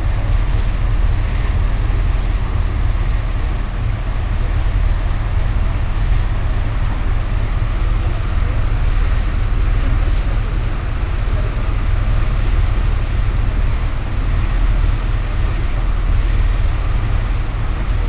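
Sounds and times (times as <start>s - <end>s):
churning wake rushing: 0.0s - 18.0s
ferry engines rumbling: 0.0s - 18.0s.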